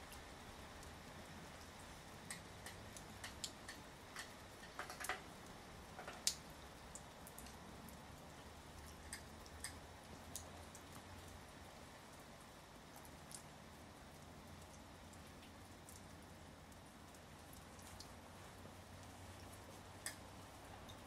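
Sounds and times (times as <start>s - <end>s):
faint steady hiss: 0.0s - 21.0s
raindrops dripping: 0.0s - 21.0s.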